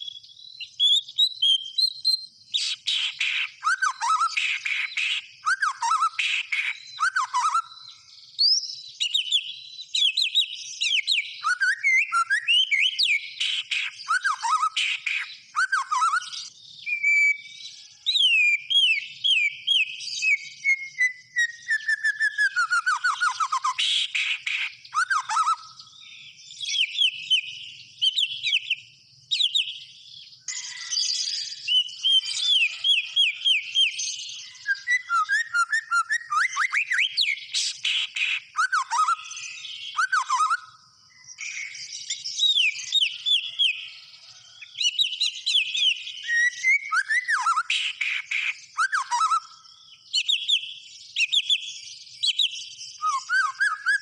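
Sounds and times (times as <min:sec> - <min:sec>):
songbird whistles and trills: 0:00.0 - 0:54.0.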